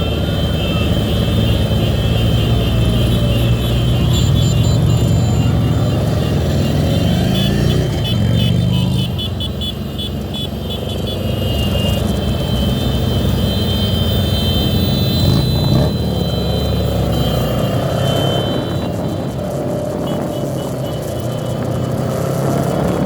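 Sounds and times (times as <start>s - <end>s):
motorcycle engine accelerating: 0.0s - 9.4s, 11.3s - 23.0s
surrounding traffic: 0.0s - 23.0s.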